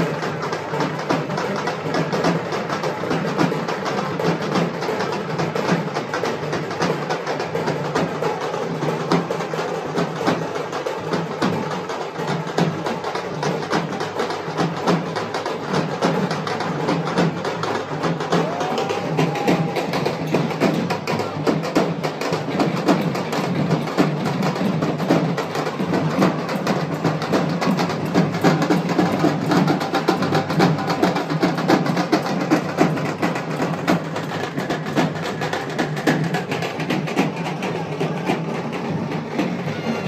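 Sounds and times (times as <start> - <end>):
fast dense drumming: 0.0 - 40.0.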